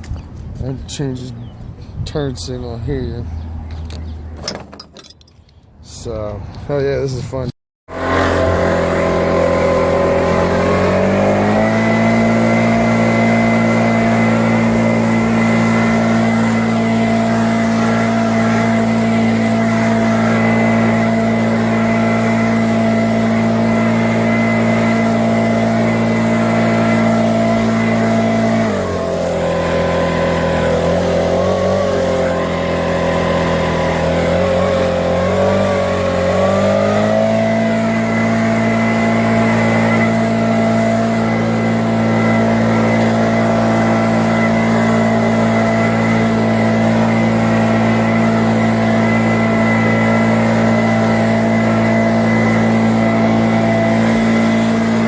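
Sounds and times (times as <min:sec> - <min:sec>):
lawn mower engine running: 0:07.9 - 0:55.0.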